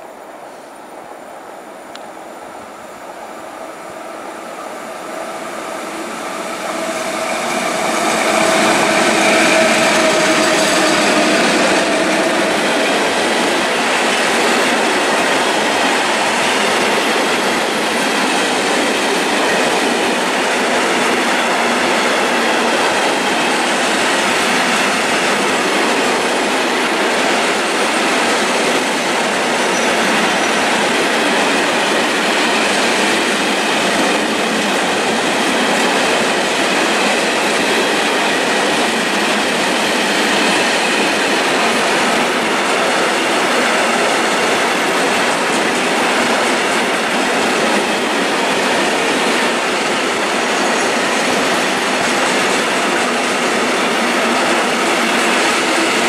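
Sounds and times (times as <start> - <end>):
electric locomotives passing: 0.0 - 56.0
train wheels clattering on rails: 3.3 - 56.0.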